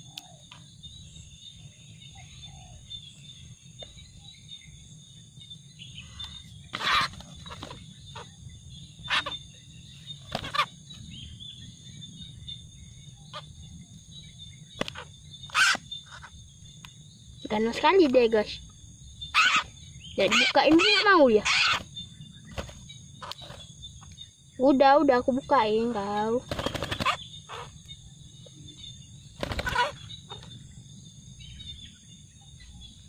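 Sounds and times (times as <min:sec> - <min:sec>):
high insect chorus: 0:00.0 - 0:33.0.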